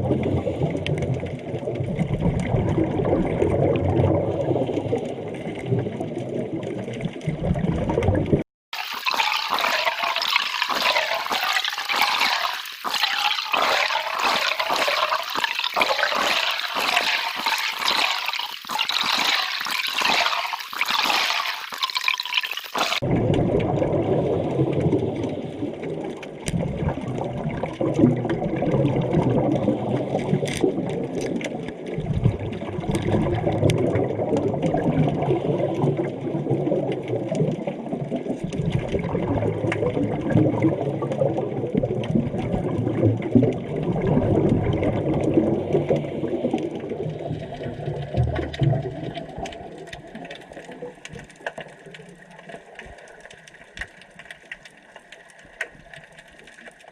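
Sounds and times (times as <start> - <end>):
underwater bubbling and rushing: 0.0 - 56.9.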